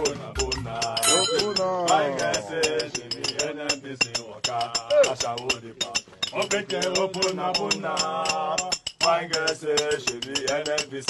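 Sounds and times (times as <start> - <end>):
fast steady clinking: 0.0 - 11.0
men chanting a song: 0.0 - 11.0.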